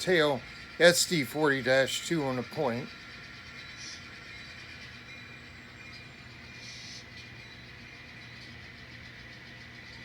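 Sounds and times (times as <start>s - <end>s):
model diesel locomotive hum: 0.0s - 10.0s.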